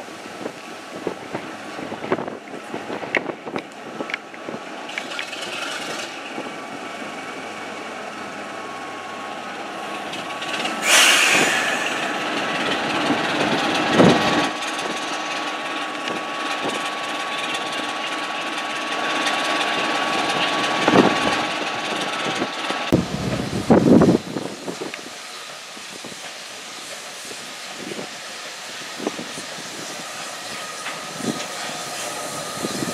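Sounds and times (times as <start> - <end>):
diesel locomotive engine running: 0.0 - 32.9.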